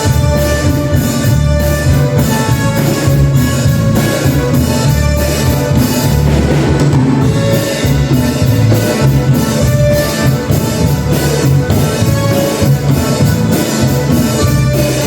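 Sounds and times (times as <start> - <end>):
bass line: 0.0 - 15.0
drum kit steady beat: 0.0 - 15.0.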